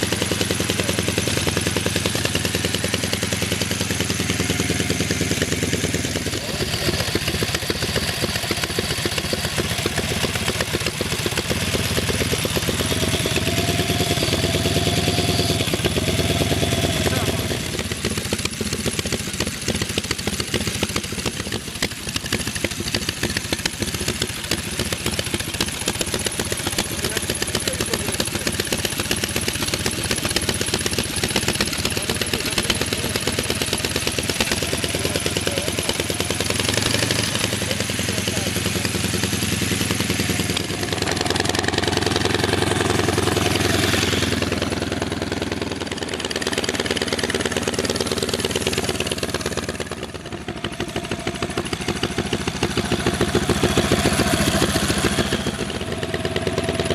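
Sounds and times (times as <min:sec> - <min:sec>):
motorcycle engine running and revving: 0:00.0 - 0:56.9.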